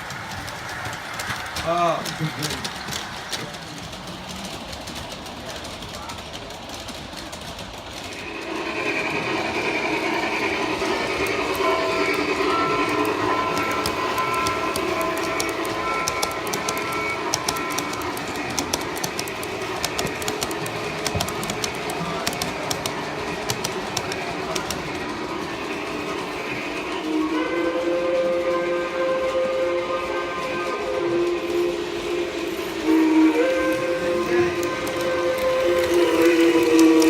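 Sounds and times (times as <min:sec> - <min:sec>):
wheels clicking over rail joints: 0:00.0 - 0:29.7, 0:30.5 - 0:37.0
model train running on track: 0:00.0 - 0:37.0.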